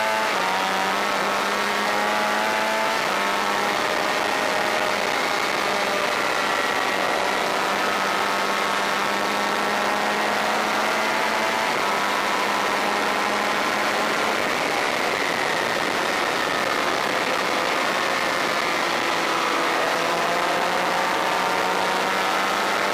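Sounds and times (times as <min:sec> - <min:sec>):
racing motorcycle engine: 0:00.0 - 0:22.9.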